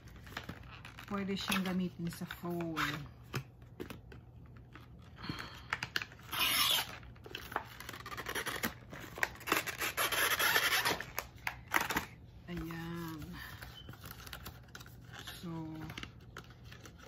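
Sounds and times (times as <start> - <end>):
packaging rustling and scraping: 0.0 - 17.0.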